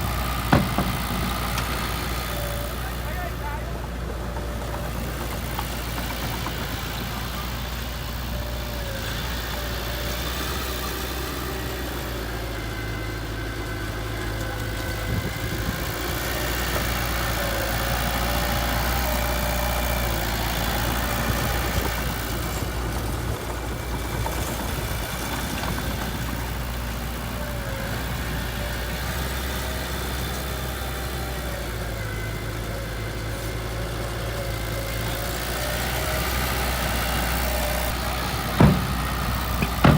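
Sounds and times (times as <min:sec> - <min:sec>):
diesel engine idling low: 0:00.0 - 0:39.9.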